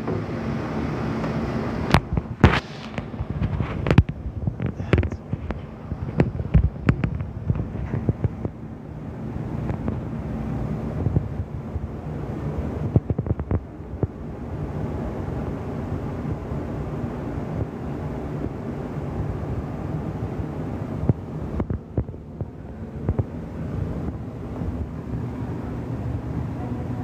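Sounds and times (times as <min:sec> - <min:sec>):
low rumbling noise: 0:00.0 - 0:27.0.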